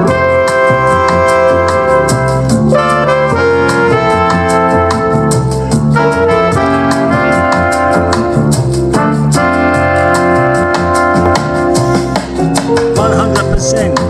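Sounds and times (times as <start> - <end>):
music through a small speaker: 0.0 - 14.0.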